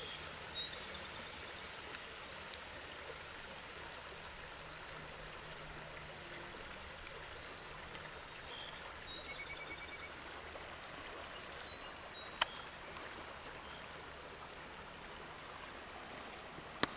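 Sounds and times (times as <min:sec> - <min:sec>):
flowing river water: 0:00.0 - 0:16.9.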